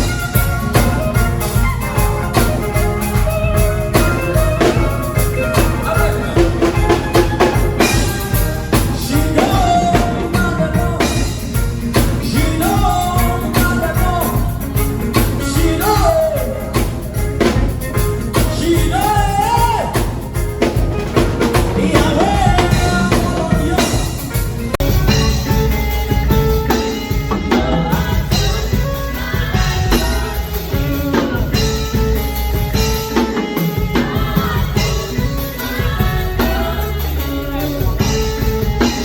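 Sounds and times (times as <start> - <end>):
live band playing: 0.0 - 39.0
person singing: 0.0 - 39.0.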